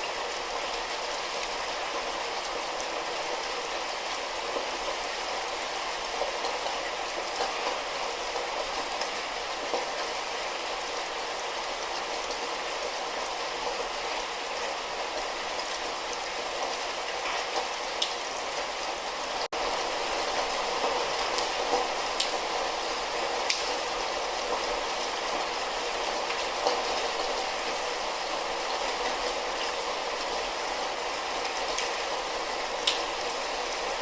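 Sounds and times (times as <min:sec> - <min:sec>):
sharp ticks of raindrops: 0:00.0 - 0:18.7, 0:19.4 - 0:34.0
light rain falling: 0:00.0 - 0:34.0.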